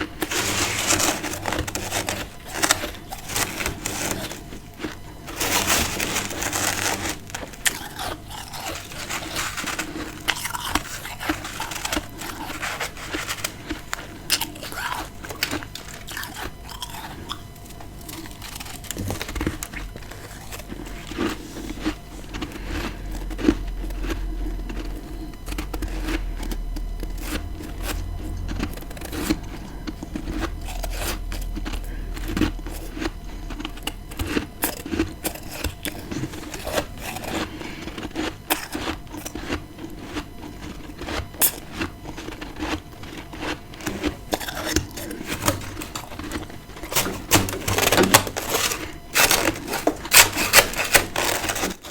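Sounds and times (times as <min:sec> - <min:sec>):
crunching and chewing frost: 0:00.0 - 0:51.9
low steady hum: 0:00.0 - 0:51.9.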